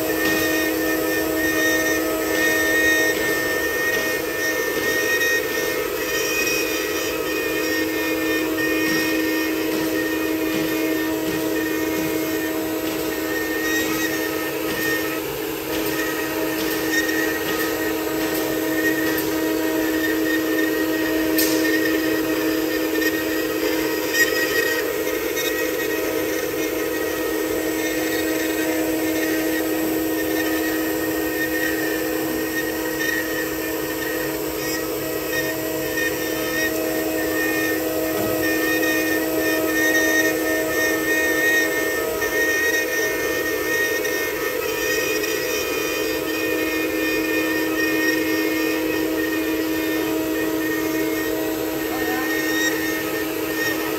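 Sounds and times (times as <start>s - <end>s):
carving bit cutting hiss: 0.0s - 53.9s
wood router spindle whine: 0.0s - 53.9s.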